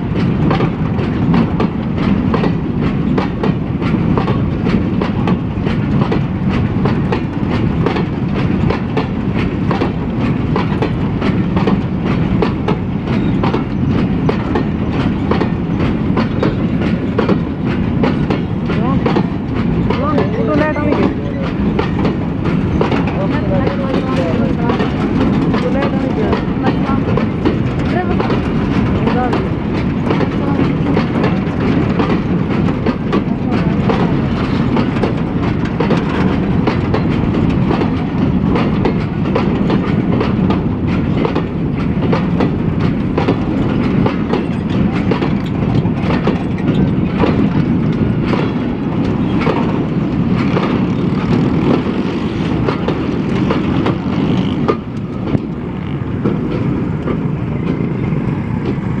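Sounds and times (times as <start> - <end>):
freight wagon wheels rumbling: 0.0 - 59.0
clicks and clanks: 0.2 - 55.6.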